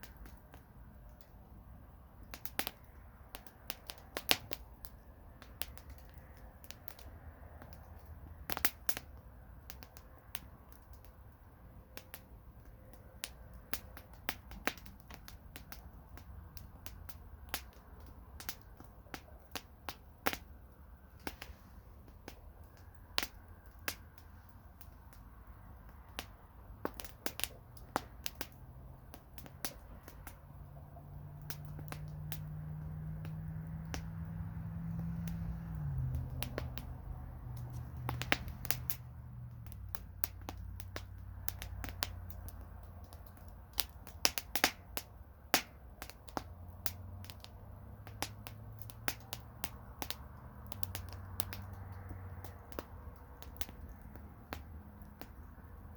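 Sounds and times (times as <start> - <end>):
campfire crackling: 0.0 - 55.9
low rumble of flames: 0.0 - 55.9.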